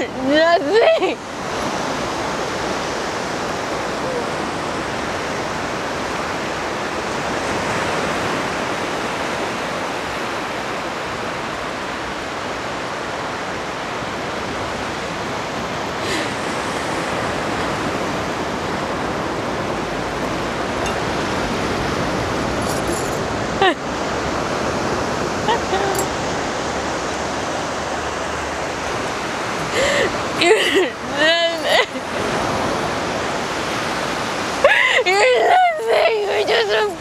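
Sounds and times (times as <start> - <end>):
sea surf rushing: 0.0 - 37.0.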